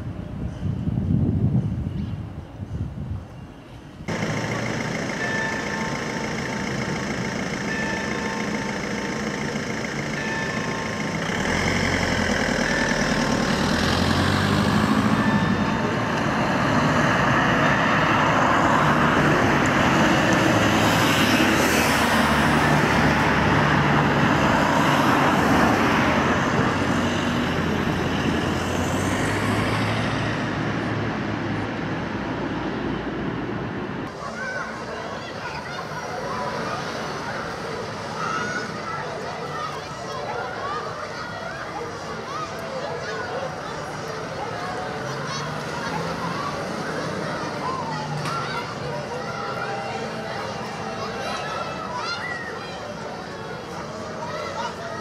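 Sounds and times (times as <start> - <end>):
bus passing: 0.0 - 55.0
street traffic: 0.0 - 55.0.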